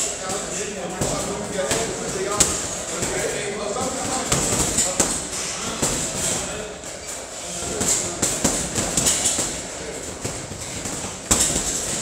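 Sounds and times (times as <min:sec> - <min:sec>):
steady background noise: 0:00.0 - 0:12.0
boxing gloves thudding on punch bags: 0:00.3 - 0:12.0.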